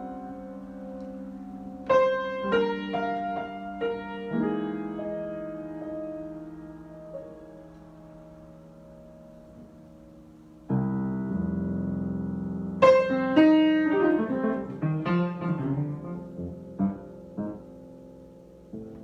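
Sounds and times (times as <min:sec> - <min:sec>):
improvised piano playing: 0:00.0 - 0:19.0.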